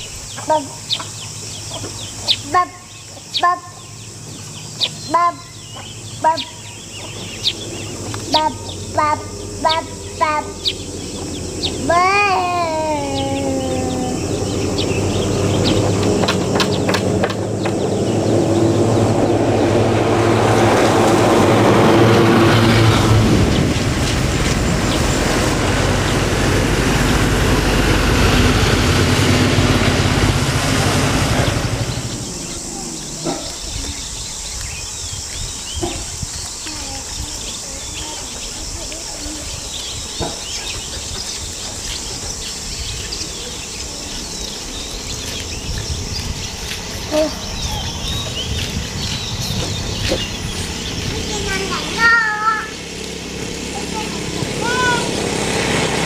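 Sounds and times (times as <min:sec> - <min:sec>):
insects: 0:00.0 - 0:55.8
birds chirping: 0:00.0 - 0:56.0
engine running: 0:00.0 - 0:56.0.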